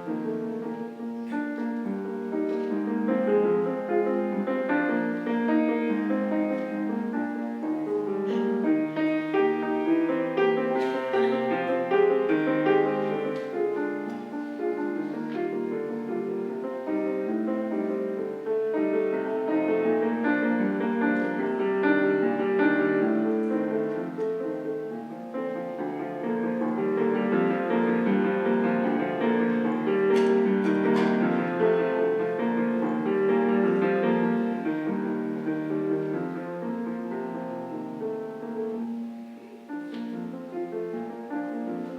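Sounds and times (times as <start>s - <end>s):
solo piano piece: 0.0s - 41.9s.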